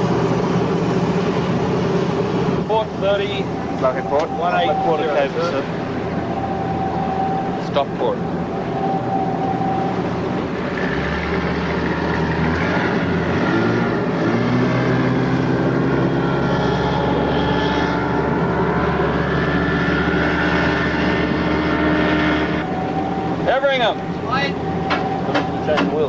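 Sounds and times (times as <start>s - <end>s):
boat engines running: 0.0s - 26.0s.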